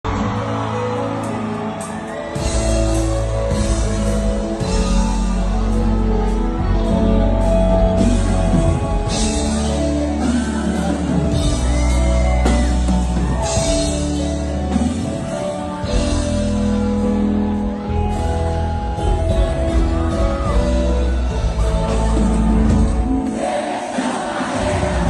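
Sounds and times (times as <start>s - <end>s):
live band playing: 0.1s - 25.0s.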